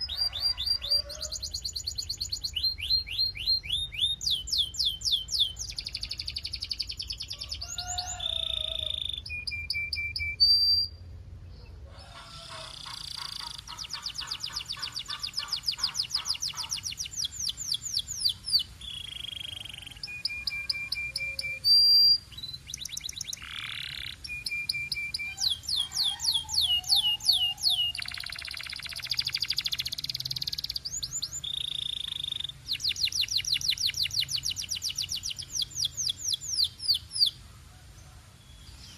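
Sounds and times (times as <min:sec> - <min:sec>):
canary singing trills: 0:00.0 - 0:37.4.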